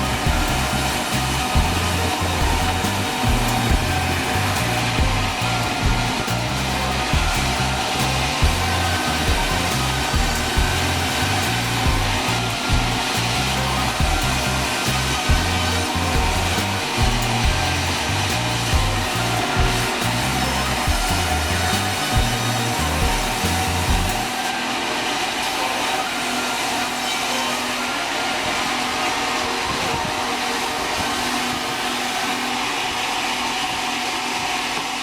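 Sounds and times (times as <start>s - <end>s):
sawmill saw cutting log: 0.0s - 35.0s.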